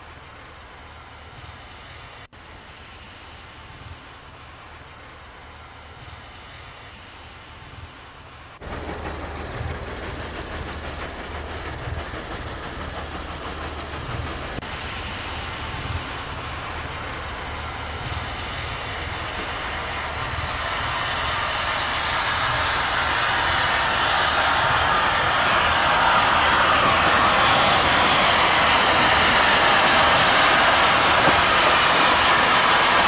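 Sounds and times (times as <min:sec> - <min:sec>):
steam locomotive running and hissing: 0:00.0 - 0:33.0.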